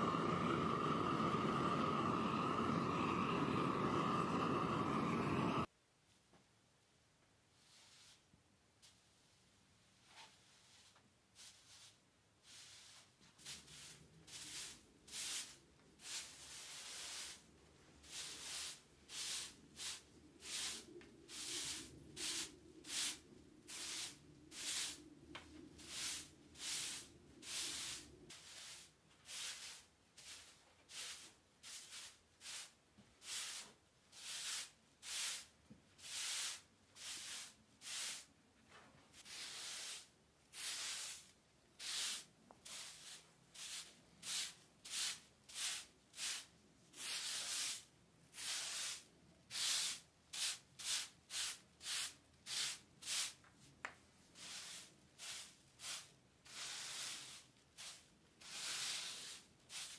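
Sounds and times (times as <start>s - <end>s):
broom sweeping grit: 0.0s - 5.7s, 7.5s - 38.4s, 39.1s - 59.9s.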